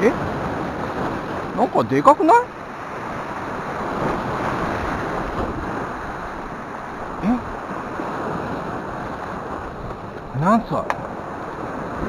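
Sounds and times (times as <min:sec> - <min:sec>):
surf breaking on rocks: 0:00.0 - 0:12.0.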